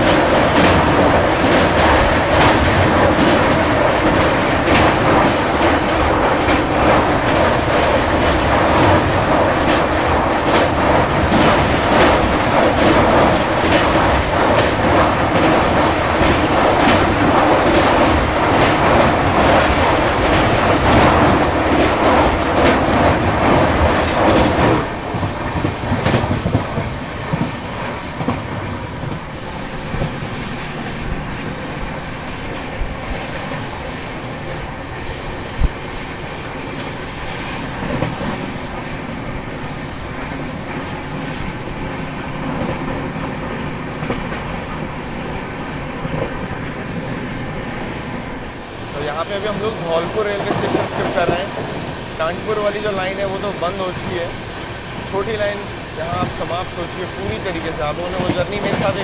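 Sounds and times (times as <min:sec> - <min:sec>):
train wheels rattling on rails: 0:00.0 - 0:59.0.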